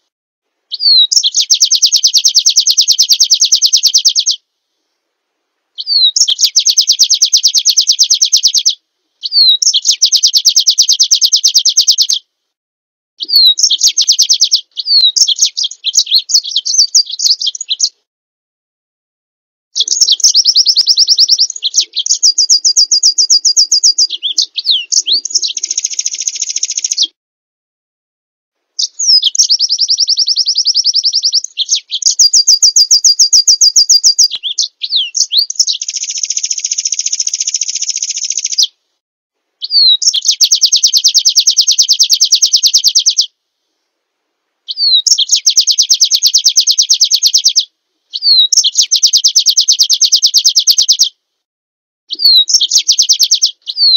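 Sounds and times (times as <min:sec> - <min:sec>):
songbird fast trills: 0:00.7 - 0:04.4, 0:05.8 - 0:12.2, 0:13.2 - 0:18.0, 0:19.8 - 0:27.2, 0:28.8 - 0:38.7, 0:39.6 - 0:43.3, 0:44.7 - 0:51.1, 0:52.1 - 0:53.9.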